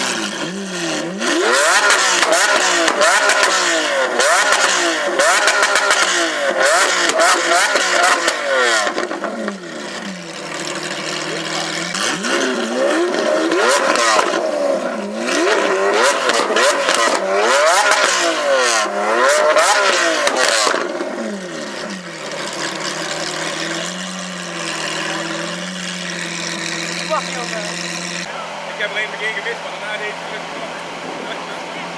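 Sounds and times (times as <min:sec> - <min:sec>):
car engine revving: 0:00.0 - 0:31.9
exhaust pops and crackles: 0:01.6 - 0:28.3.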